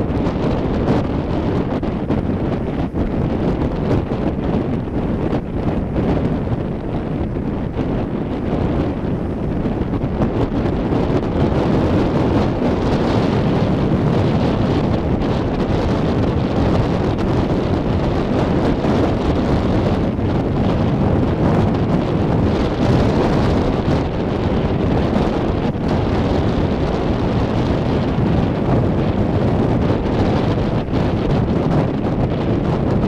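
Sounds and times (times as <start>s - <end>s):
strong wind on microphone: 0.0s - 33.0s.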